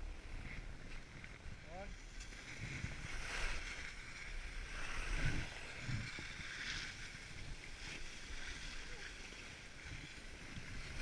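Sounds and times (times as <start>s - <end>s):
skis scraping over snow: 0.0s - 11.0s
wind rumbling on microphone: 0.0s - 11.0s.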